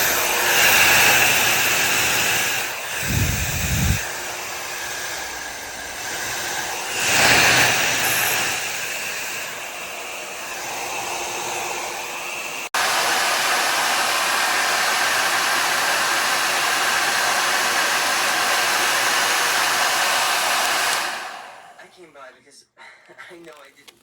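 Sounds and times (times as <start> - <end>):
hair dryer blowing air: 0.0 - 21.8.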